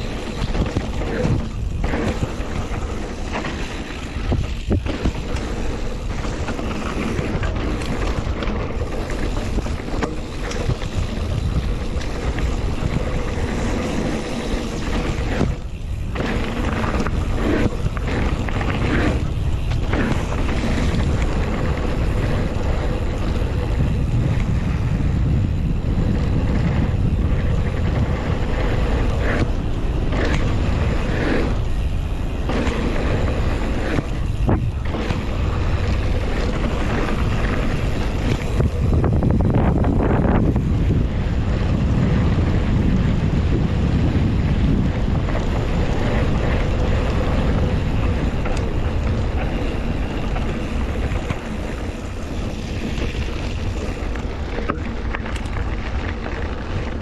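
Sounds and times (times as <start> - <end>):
bike tyres rumbling on dirt: 0.0 - 57.0
wind rushing over microphone: 0.0 - 57.0.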